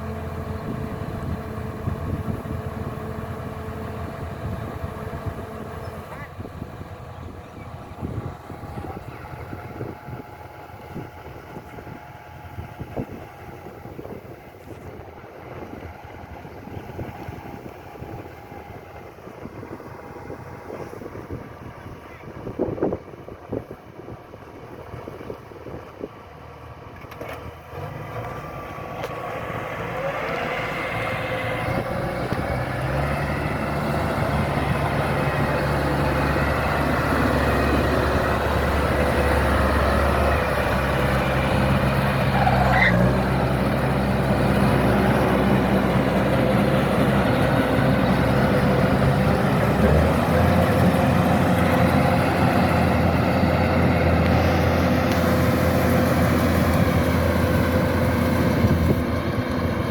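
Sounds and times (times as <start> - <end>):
harvester engine humming and whining: 0.0 - 59.9.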